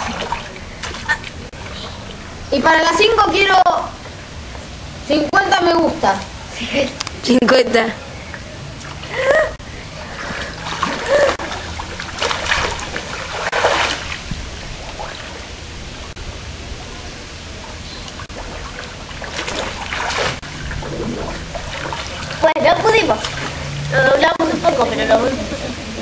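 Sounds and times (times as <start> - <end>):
pool water splashing and sloshing: 0.0 - 26.0.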